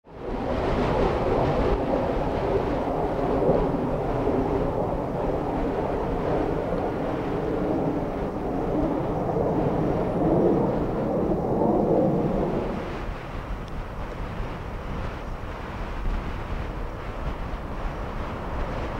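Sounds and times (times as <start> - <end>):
wildfire rumbling: 0.1 - 18.9.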